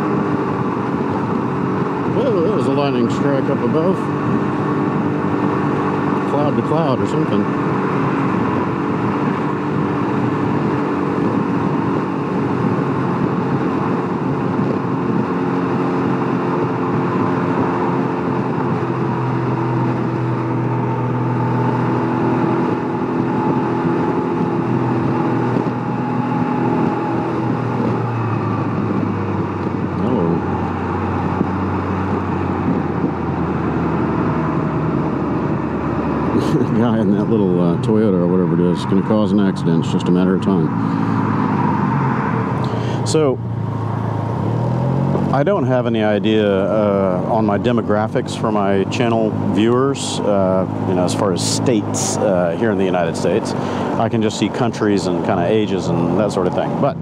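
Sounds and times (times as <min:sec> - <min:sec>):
trike engine running: 0:00.0 - 0:57.0
wind and road noise: 0:00.0 - 0:57.0.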